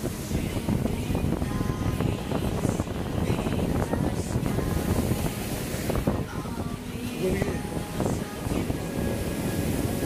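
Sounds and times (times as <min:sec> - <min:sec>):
surf: 0:00.0 - 0:10.0
wind buffeting microphone: 0:00.0 - 0:10.0.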